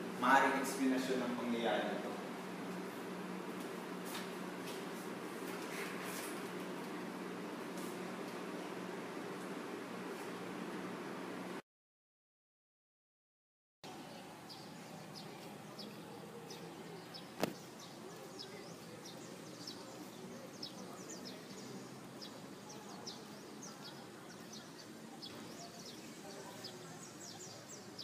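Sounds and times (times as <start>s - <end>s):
outdoor background noise: 0.0s - 11.6s, 13.8s - 28.0s.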